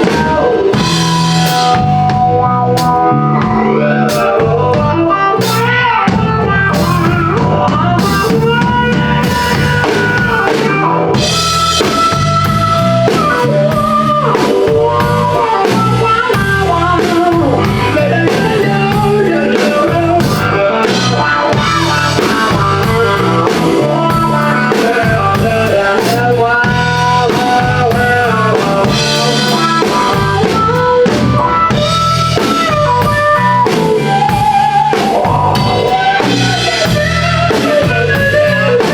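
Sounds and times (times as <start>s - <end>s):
drum kit groove: 0.0s - 38.9s
lead electric guitar: 0.0s - 38.9s
low-end rhythm: 0.0s - 38.9s.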